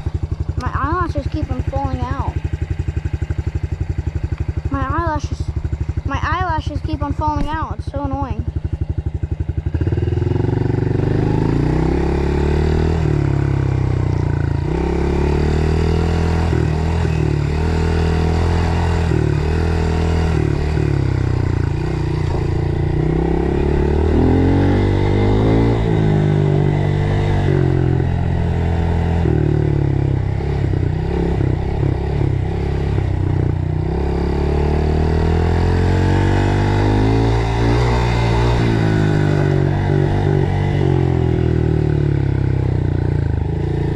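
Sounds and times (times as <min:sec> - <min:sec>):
dirt bike engine revving: 0:04.5 - 0:43.9.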